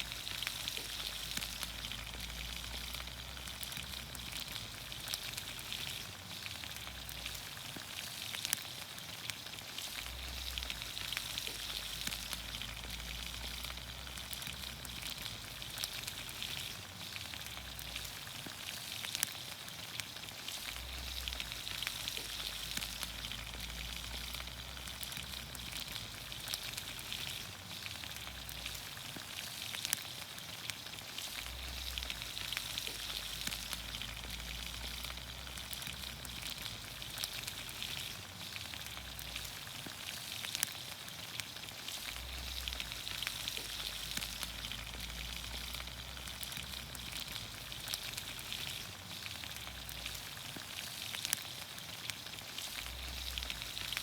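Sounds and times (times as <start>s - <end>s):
campfire popping and crackling: 0.0s - 54.0s
vegetables sizzling in oil: 0.0s - 54.0s.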